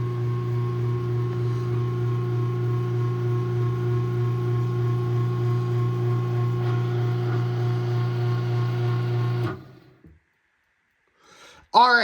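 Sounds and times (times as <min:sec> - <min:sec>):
garage door opener motor humming: 0:00.0 - 0:10.0.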